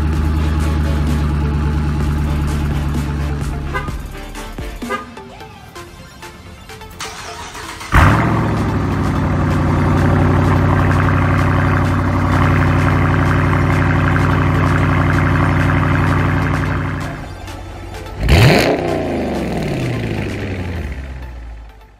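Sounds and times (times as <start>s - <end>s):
engine revving: 0.0s - 5.2s, 7.0s - 21.8s
car engine starting and idling: 0.0s - 21.9s.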